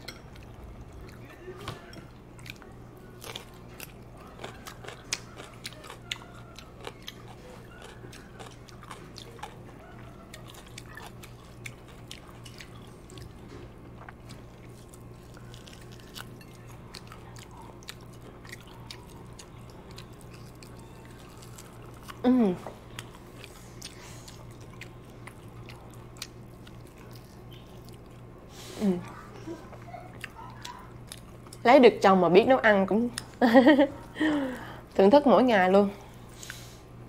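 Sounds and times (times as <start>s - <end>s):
person chewing food: 0.0s - 22.2s, 22.8s - 28.3s, 29.0s - 31.6s
steady low hum: 0.0s - 37.0s.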